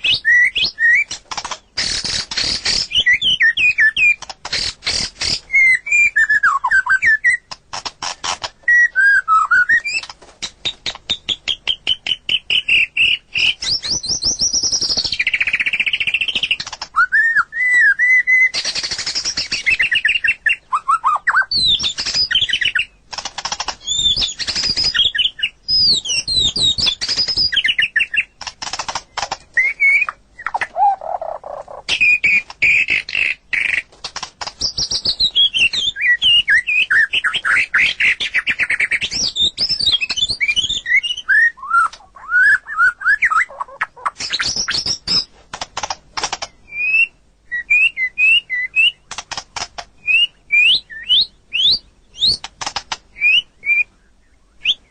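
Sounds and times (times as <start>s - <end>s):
bird singing whistles: 0.0s - 1.2s, 1.8s - 7.5s, 8.6s - 10.1s, 10.8s - 23.0s, 23.8s - 28.3s, 29.5s - 33.8s, 34.6s - 45.3s, 46.6s - 49.0s, 50.0s - 52.5s, 53.1s - 54.9s
bird harsh chattering: 0.0s - 46.9s.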